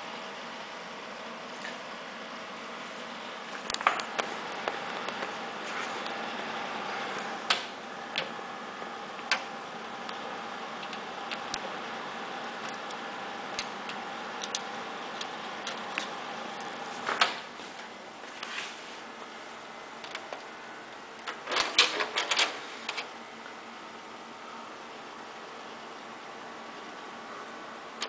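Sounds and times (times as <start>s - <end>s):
computer fans whirring: 0.0s - 28.0s.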